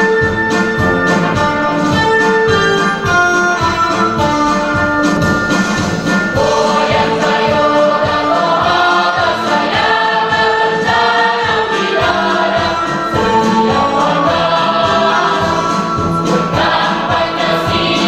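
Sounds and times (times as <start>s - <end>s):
instrumental accompaniment: 0.0s - 18.0s
choir singing a march: 0.8s - 18.0s.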